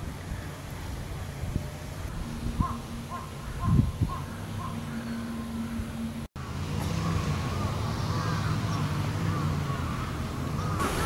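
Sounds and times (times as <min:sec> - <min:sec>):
wind rumble on microphone: 0:00.0 - 0:11.0
cicadas singing: 0:01.8 - 0:11.0.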